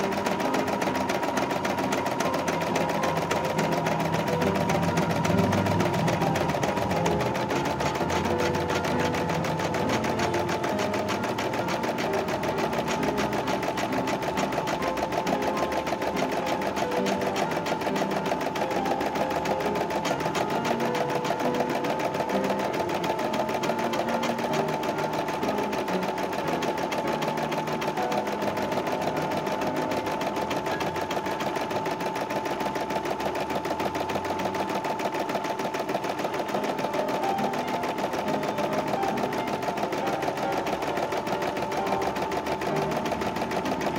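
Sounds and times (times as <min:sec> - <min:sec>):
embroidery machine stitching: 0:00.0 - 0:43.9.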